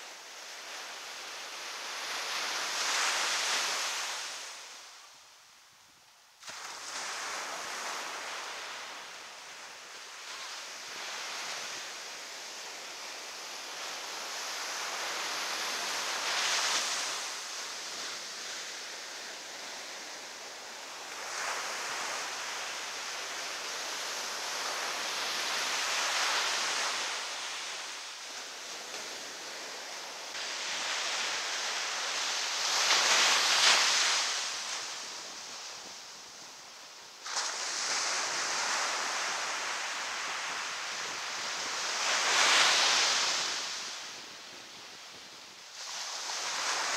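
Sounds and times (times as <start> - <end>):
ocean waves breaking on beach: 0.0 - 5.3, 6.4 - 46.9.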